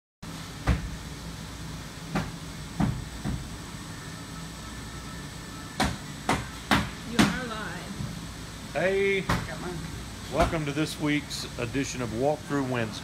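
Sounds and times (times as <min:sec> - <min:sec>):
low workshop hum: 0:00.2 - 0:13.0.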